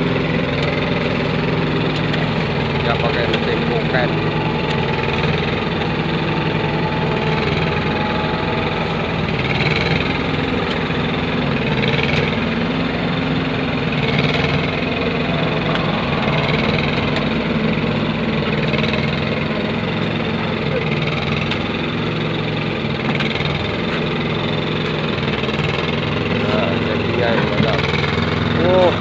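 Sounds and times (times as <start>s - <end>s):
machine engine running: 0.0s - 29.0s.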